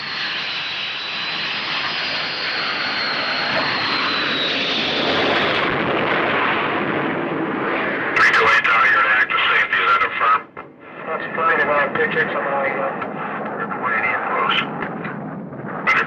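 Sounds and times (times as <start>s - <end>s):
aircraft engine rush: 0.0s - 16.0s
thin high engine whine: 0.0s - 16.0s.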